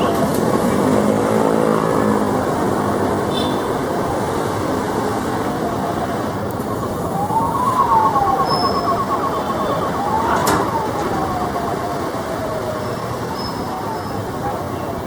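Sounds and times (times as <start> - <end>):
siren wailing: 0.0 - 15.0
siren warbling: 0.0 - 15.0
vehicle noise: 0.0 - 15.0.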